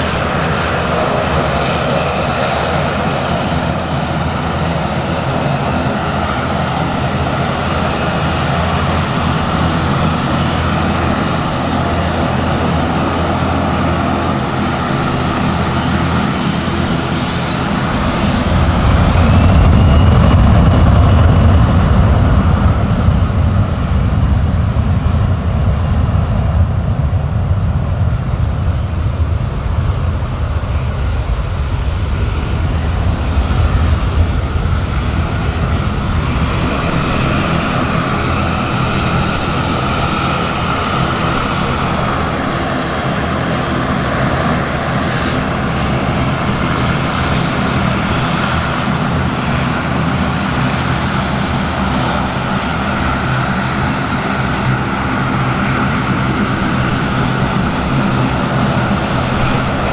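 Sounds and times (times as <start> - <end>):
aircraft engines rumbling: 0.0 - 59.9.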